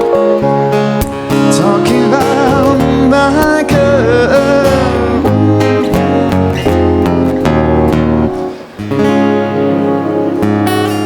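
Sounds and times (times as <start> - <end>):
live band playing: 0.0 - 11.0
strummed acoustic guitar: 0.0 - 11.0.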